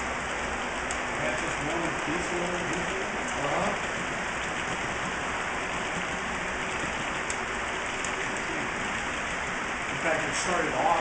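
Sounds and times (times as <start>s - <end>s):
model trains rolling on rails: 0.0s - 11.0s.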